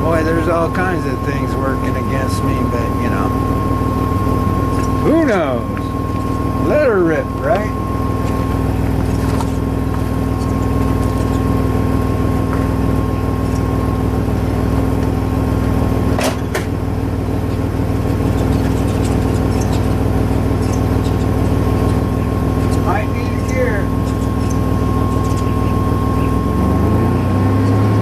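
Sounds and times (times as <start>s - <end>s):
vehicle engine running at low revs: 0.0s - 28.0s.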